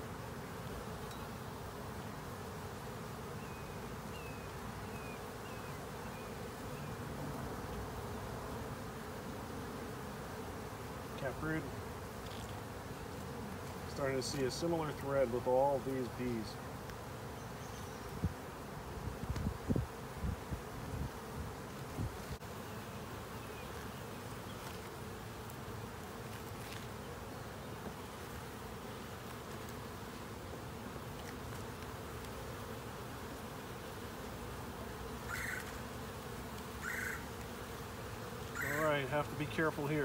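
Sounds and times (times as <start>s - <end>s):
bees buzzing: 0.0s - 40.0s.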